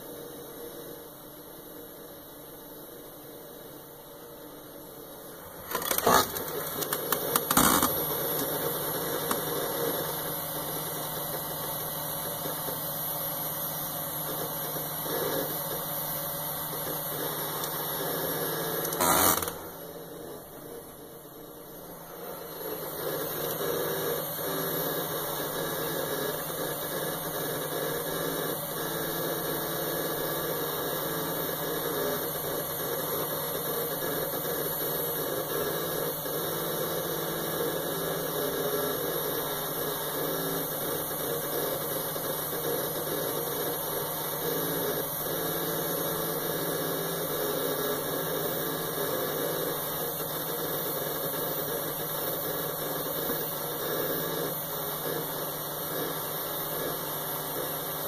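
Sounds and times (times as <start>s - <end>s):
hard drive whine and hum: 0.0s - 58.0s.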